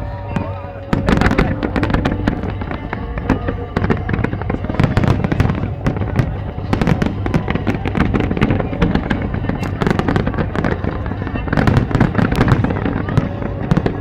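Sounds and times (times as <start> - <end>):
constant low rumble: 0.0 - 14.0
fireworks cracks and bangs: 0.0 - 14.0.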